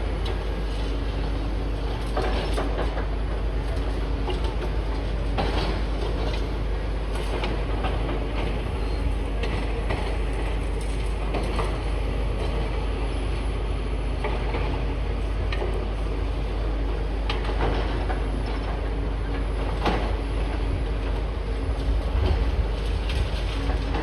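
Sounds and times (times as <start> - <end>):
excavator engine rumble: 0.0 - 24.0
knocks and clanks of rubble: 0.2 - 12.7, 14.2 - 24.0.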